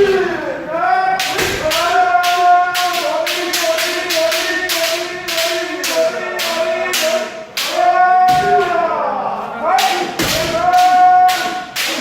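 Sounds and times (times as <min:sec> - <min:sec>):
people yelling: 0:00.0 - 0:12.0.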